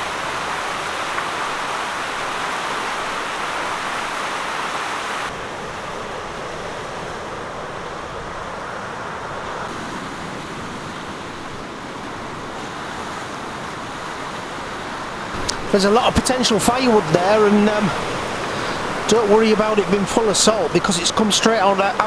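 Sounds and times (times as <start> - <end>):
fast-flowing water rushing: 0.0 - 5.4, 9.7 - 22.0.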